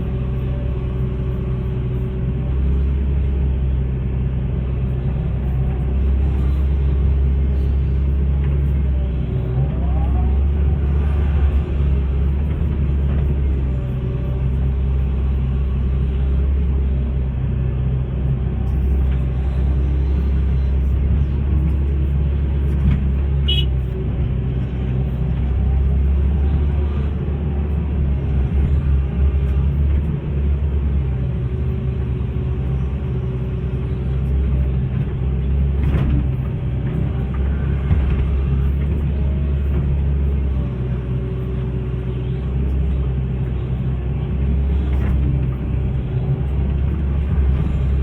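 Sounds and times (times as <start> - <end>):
excavator diesel engine rumbling: 0.0 - 48.0.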